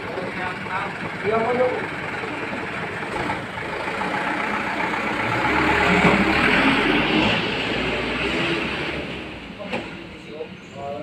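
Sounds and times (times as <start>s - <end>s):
heavy vehicle engine rumble: 0.0s - 11.0s
road noise: 0.0s - 11.0s.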